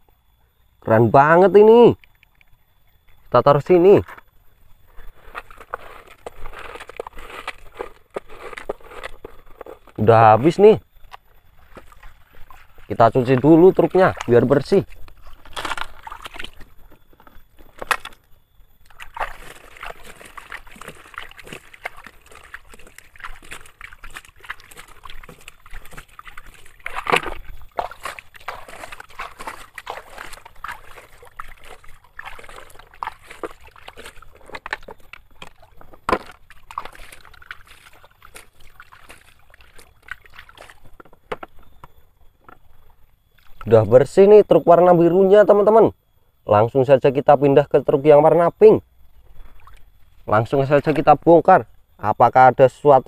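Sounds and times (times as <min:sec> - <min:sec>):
water sloshing and splashing: 0:01.9 - 0:43.9, 0:49.0 - 0:51.7.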